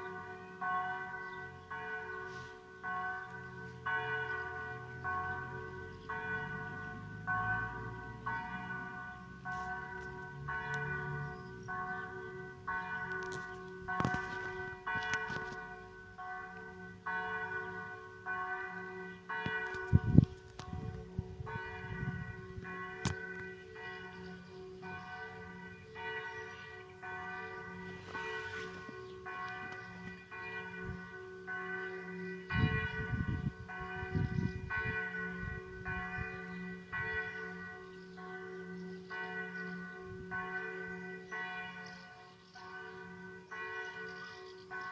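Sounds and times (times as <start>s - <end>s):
church bell ringing: 0.0s - 44.9s.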